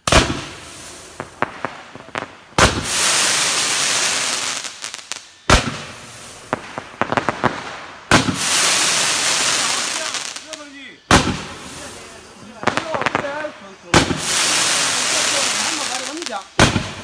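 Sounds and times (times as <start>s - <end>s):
firework bangs: 0.0s - 17.0s
firework crackles: 0.0s - 17.0s
firework hiss: 0.0s - 17.0s.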